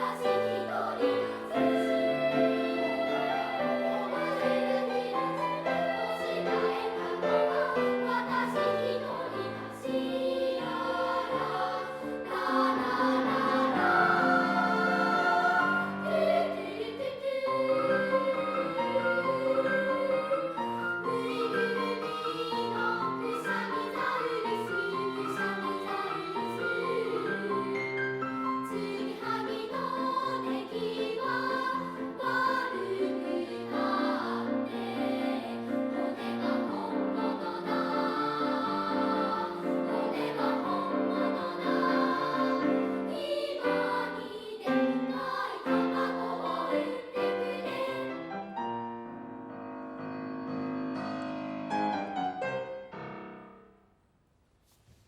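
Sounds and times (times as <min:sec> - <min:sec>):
children's choir singing: 0:00.0 - 0:49.1
piano accompaniment: 0:00.0 - 0:53.8.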